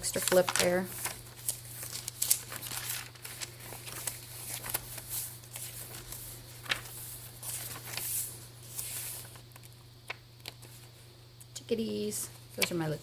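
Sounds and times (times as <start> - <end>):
paper pages rustling: 0.0 - 10.9.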